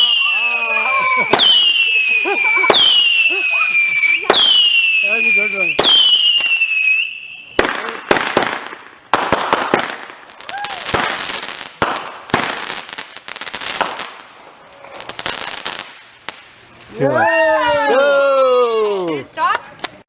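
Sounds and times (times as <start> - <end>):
fireworks bangs and crackling: 0.0 - 16.9.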